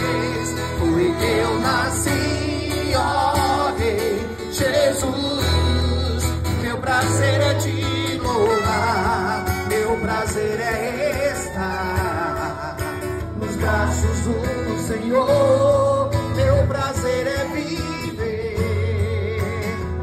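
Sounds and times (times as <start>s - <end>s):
guitar: 0.0s - 20.0s
man singing: 0.0s - 20.0s.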